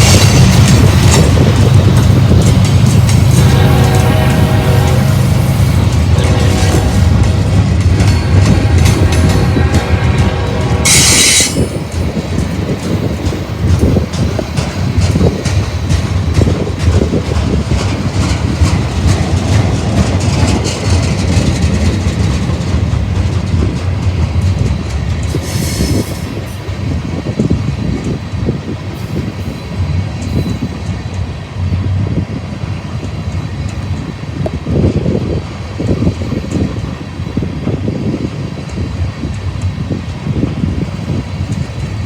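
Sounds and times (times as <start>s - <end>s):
freight train rumbling past: 0.0s - 42.0s.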